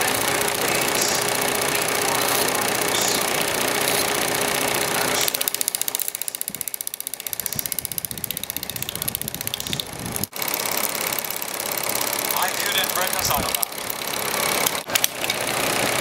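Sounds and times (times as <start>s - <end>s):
kart engines running: 0.0s - 16.0s.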